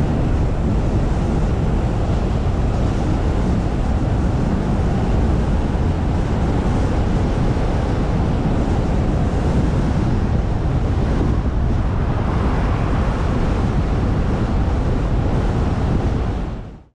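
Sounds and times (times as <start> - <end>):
car road noise: 0.0 - 16.2
wind buffeting microphone: 0.0 - 16.9.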